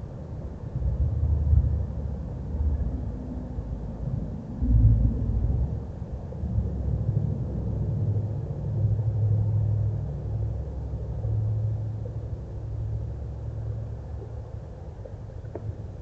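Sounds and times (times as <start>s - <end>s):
low steady rumble with hum: 0.0s - 16.0s.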